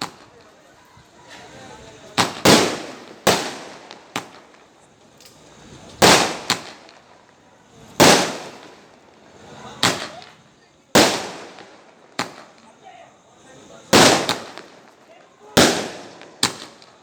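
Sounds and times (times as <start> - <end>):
firecrackers banging: 0.0 - 17.0.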